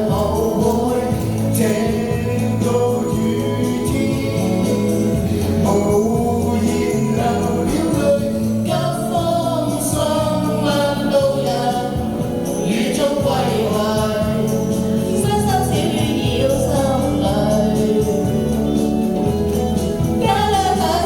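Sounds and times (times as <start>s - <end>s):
pop song with sung vocals: 0.0s - 21.0s.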